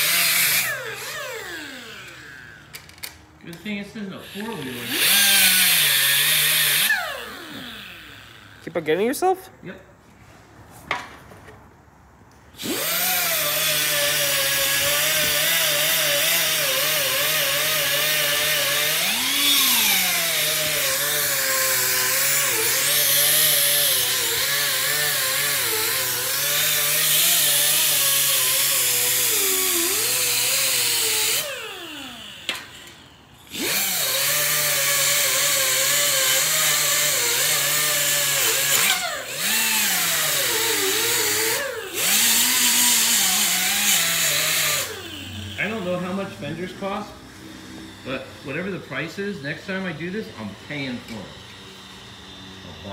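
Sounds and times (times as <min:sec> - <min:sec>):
pneumatic die grinder whining: 0:00.0 - 0:08.8, 0:12.5 - 0:52.9.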